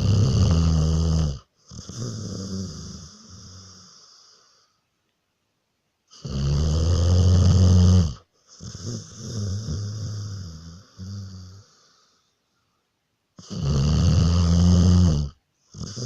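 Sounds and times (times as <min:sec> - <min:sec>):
dog snoring: 0:00.0 - 0:04.7, 0:06.1 - 0:12.3, 0:13.4 - 0:16.0.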